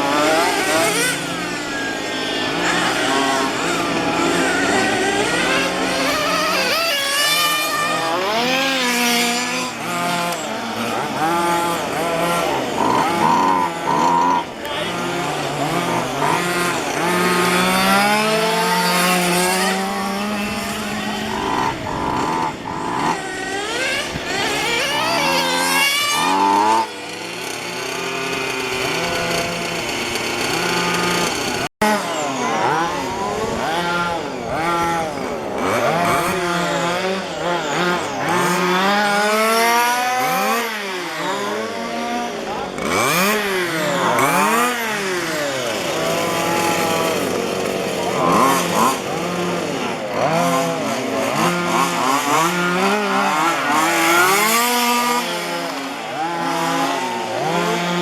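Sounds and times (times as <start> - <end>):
rc car engines revving: 0.0 - 58.0.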